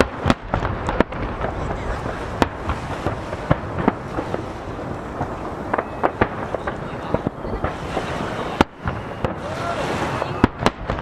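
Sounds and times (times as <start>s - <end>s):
fireworks bangs and crackles: 0.0s - 11.0s
waves breaking: 0.0s - 11.0s.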